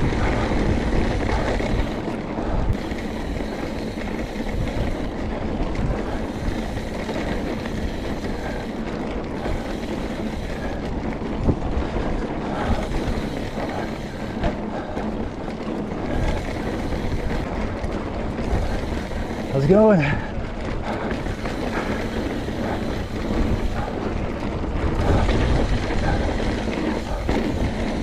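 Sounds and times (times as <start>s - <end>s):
bike tyres rolling on rock: 0.0s - 28.0s
wind rushing over microphone: 0.0s - 28.0s.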